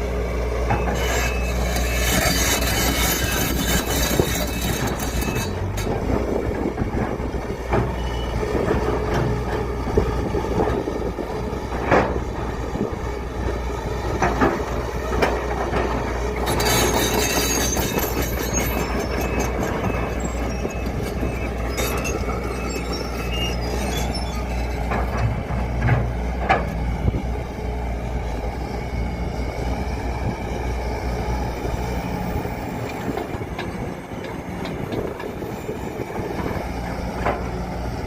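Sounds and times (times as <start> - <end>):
excavator diesel engine: 0.0 - 38.0.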